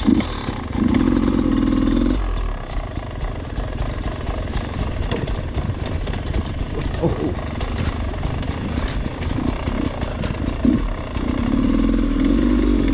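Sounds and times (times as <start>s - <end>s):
dirt bike engine running: 0.0s - 12.9s.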